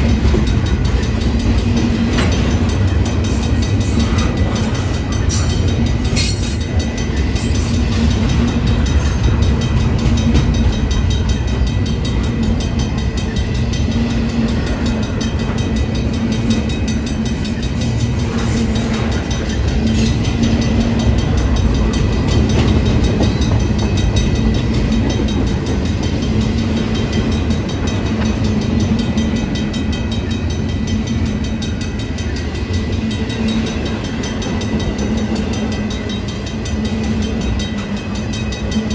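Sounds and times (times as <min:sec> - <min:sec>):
train cars rumbling past: 0:00.0 - 0:38.9
wheel clatter on rails: 0:00.0 - 0:38.9.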